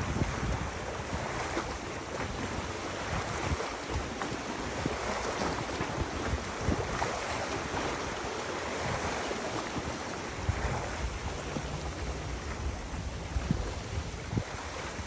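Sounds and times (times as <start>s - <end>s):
river water rushing: 0.0s - 15.0s
wind gusting on microphone: 0.0s - 15.0s.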